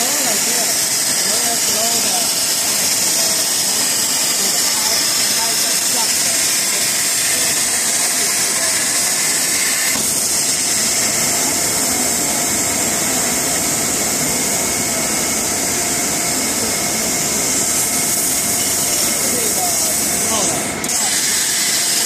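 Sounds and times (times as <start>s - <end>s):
cutting torch hissing rush: 0.0s - 22.0s.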